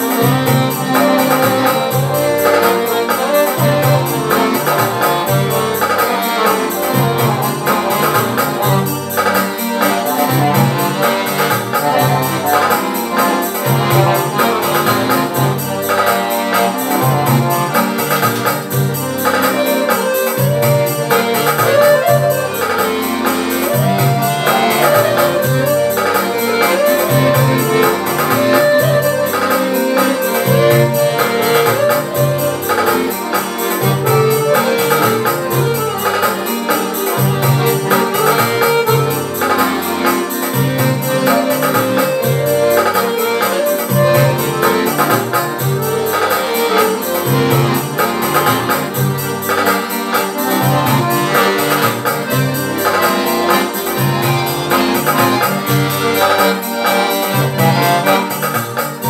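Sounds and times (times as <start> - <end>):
piano accordion playing a tune: 0.0 - 59.0.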